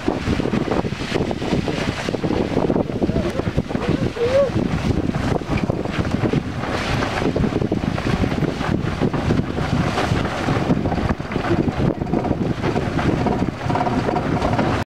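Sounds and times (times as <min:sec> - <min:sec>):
cart rattling over gravel: 0:00.0 - 0:14.8
wind buffeting microphone: 0:00.0 - 0:14.8.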